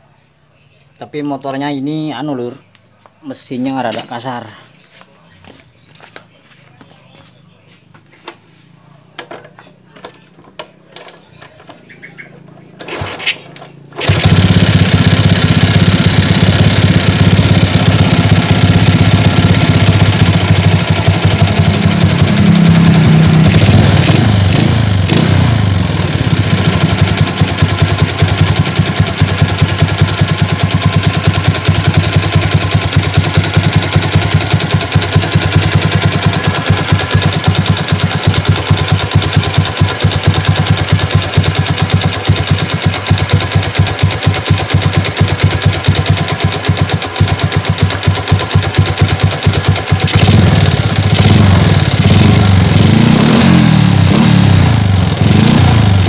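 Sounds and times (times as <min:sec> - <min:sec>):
motorcycle engine running: 0:06.8 - 0:56.0
motorcycle engine cranking: 0:09.1 - 0:56.0.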